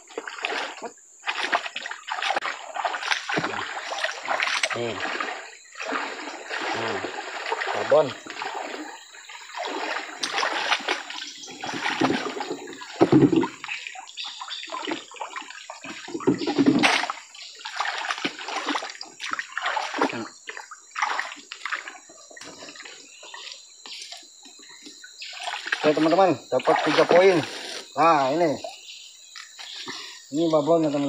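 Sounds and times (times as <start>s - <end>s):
river water splashing: 0.0s - 24.3s, 24.9s - 28.7s.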